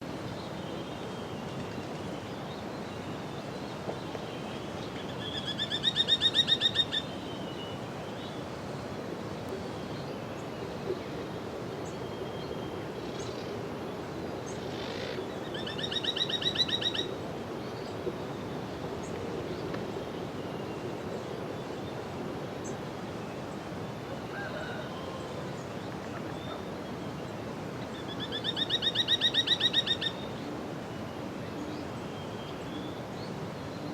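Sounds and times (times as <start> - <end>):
background hiss: 0.0 - 33.9.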